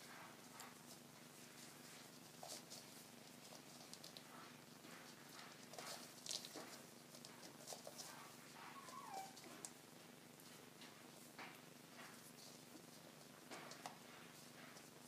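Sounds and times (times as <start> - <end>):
puppy paws scrabbling on mat: 0.0 - 15.0.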